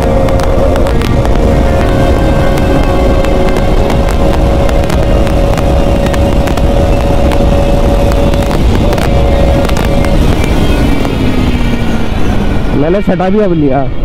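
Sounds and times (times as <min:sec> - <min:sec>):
motorcycle engine at high revs: 0:00.0 - 0:12.8
wind rush on microphone: 0:00.0 - 0:14.0.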